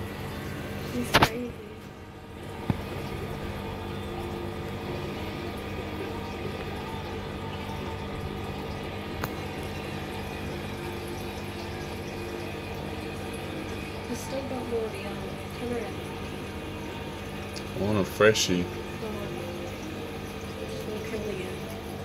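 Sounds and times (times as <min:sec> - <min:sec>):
aquarium pump moving water: 0:00.0 - 0:22.0
low steady hum: 0:00.0 - 0:22.0.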